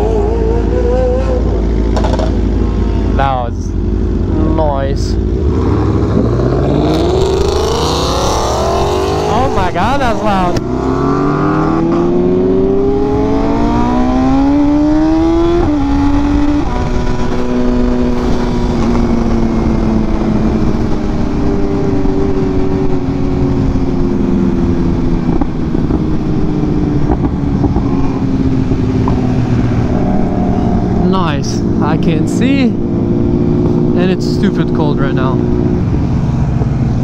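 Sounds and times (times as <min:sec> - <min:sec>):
motorcycle engine accelerating: 0:00.0 - 0:37.0
wind noise on microphone: 0:05.4 - 0:34.0, 0:35.0 - 0:37.0.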